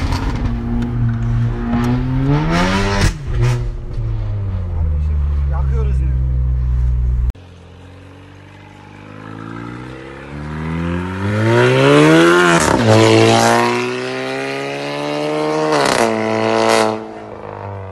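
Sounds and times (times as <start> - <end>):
car engine accelerating: 0.0 - 17.9.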